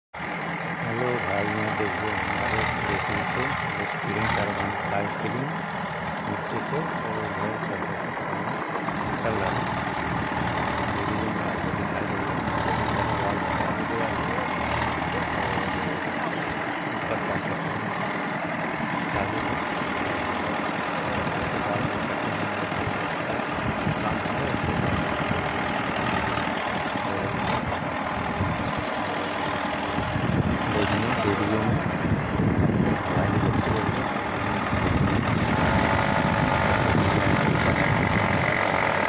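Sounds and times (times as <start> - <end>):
engine running: 0.2 - 39.0.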